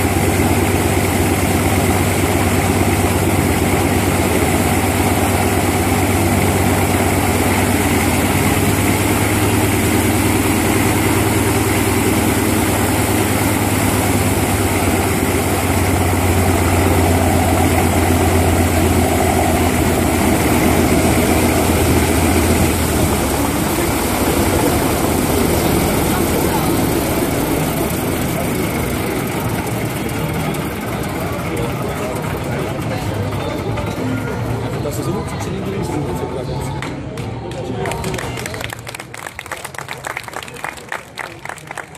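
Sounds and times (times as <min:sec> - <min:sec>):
radial engine idling: 0:00.0 - 0:36.6.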